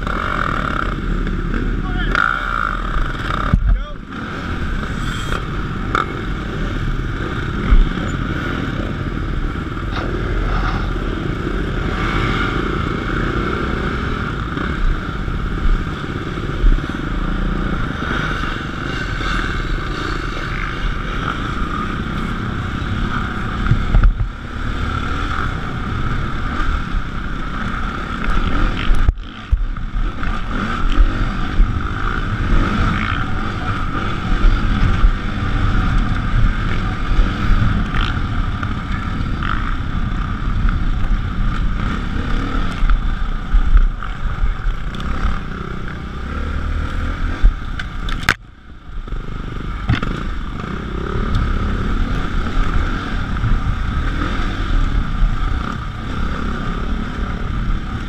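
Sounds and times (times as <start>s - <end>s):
dirt bike engine: 0.0s - 58.0s.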